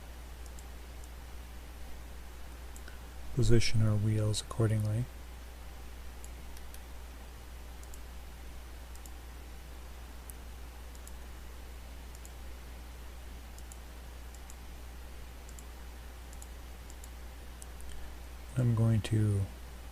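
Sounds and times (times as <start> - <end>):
low electrical hum and hiss: 0.0 - 19.9.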